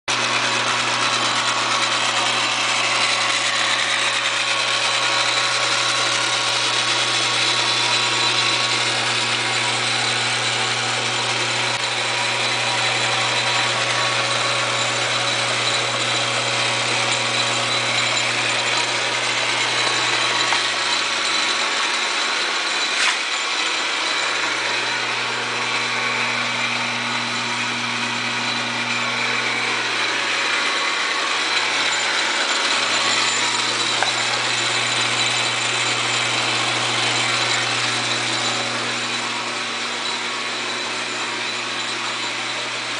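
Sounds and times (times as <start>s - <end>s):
metal lathe whirring: 0.1s - 42.9s.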